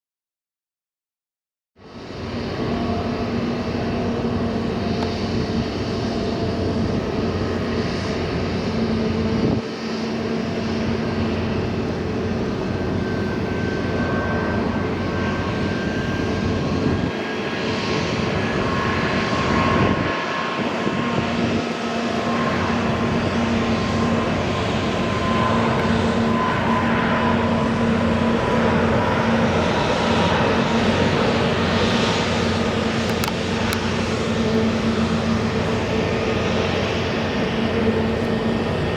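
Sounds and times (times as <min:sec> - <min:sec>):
jet engines whining and rumbling: 0:01.8 - 0:38.9.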